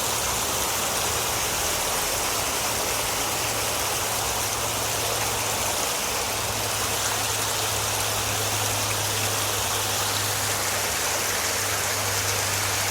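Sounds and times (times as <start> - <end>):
rushing floodwater: 0.0 - 12.9.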